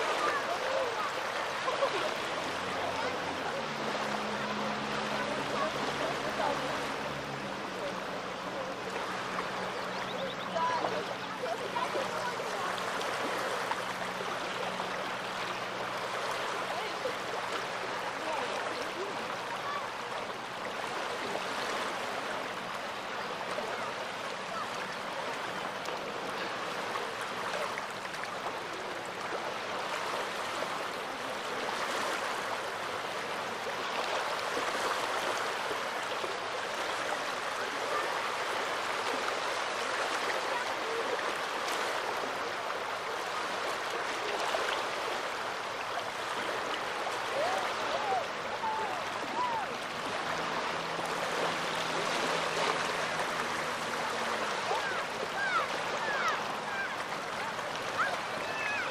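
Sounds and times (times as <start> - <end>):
small waves washing ashore: 0.0 - 58.9.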